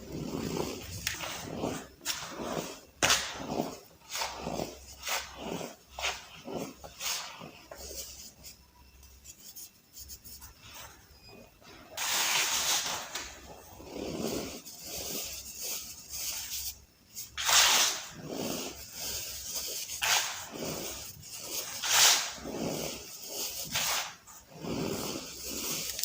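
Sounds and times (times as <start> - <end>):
gritty crunching of powder balls: 0.0 - 9.3, 10.1 - 26.0.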